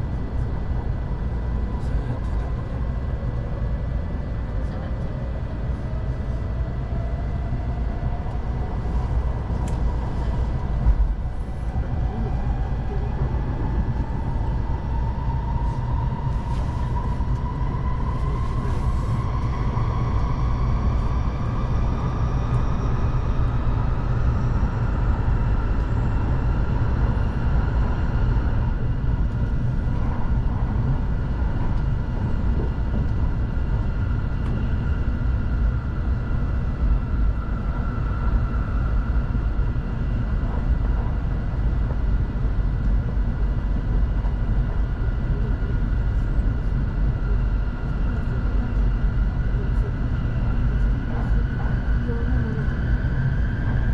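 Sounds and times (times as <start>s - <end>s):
train running rumble: 0.0s - 53.9s.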